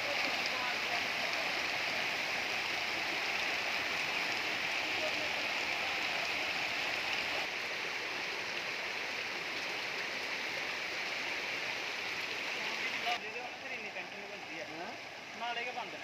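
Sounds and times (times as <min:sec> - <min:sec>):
floodwater rushing over pavement: 0:00.0 - 0:16.0.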